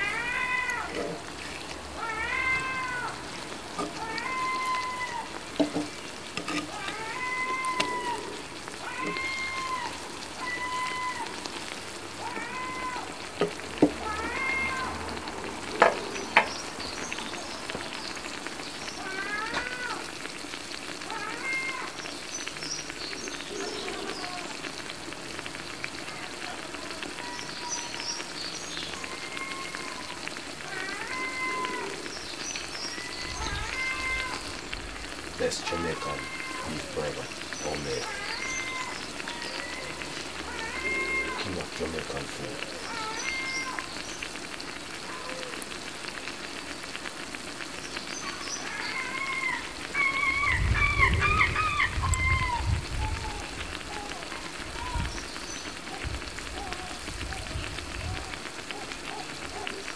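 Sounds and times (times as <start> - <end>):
food frying in hot oil: 0.0 - 59.9.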